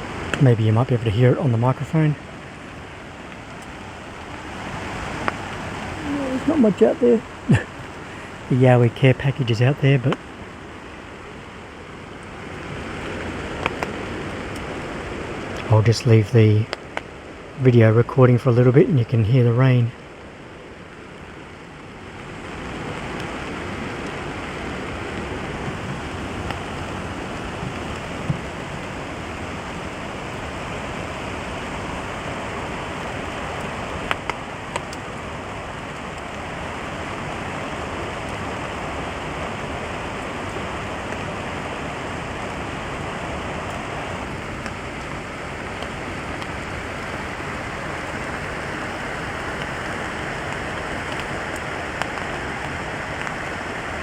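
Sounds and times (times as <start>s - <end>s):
rain on a tarp: 0.0s - 54.0s.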